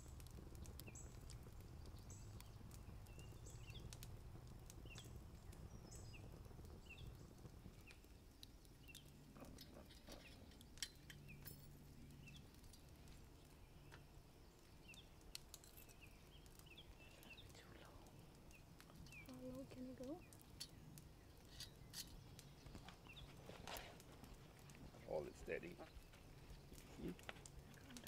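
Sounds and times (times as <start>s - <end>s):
faint clicks and ticks: 0.0s - 28.0s.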